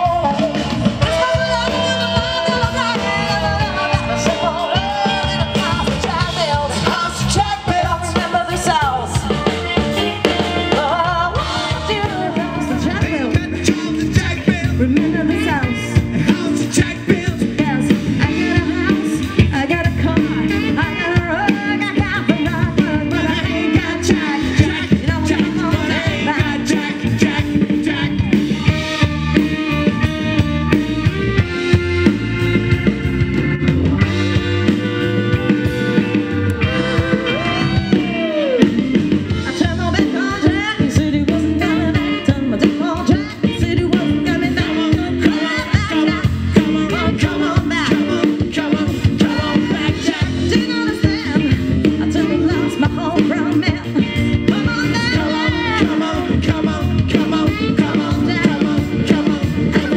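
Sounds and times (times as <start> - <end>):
person singing: 0.0 - 30.4, 33.8 - 59.9
bass: 0.0 - 59.9
drum kit beat: 0.0 - 59.9
soul band playing: 0.0 - 59.9.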